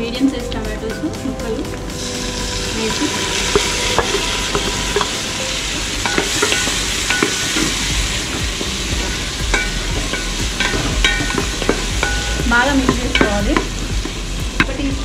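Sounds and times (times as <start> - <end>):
tomatoes sizzling in hot oil: 1.5 - 15.0.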